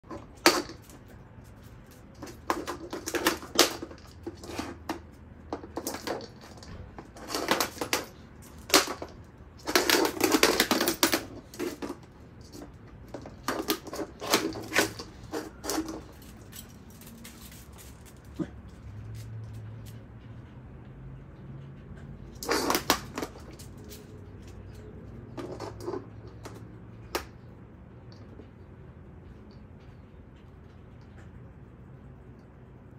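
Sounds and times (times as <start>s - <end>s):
plastic ball rattling over pavers: 0.0s - 20.3s, 22.0s - 31.3s.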